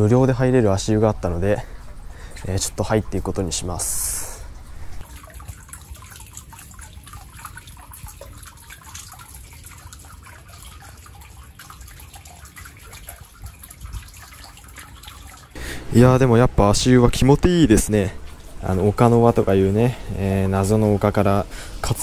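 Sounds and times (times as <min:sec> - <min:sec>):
water trickling into basin: 0:00.0 - 0:22.0.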